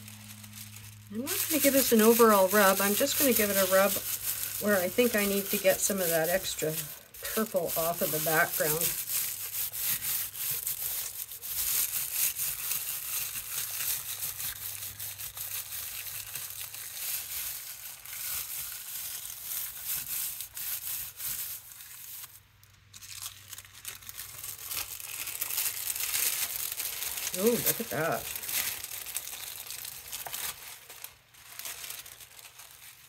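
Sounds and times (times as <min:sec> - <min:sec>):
tissue paper rustling and crinkling: 0:00.0 - 0:33.0.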